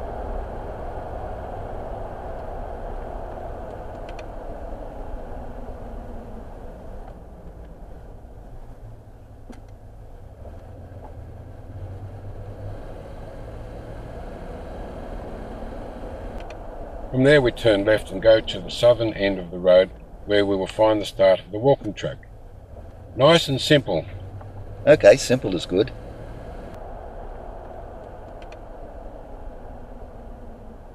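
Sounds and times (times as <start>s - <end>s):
car engine and road noise: 0.0s - 30.9s.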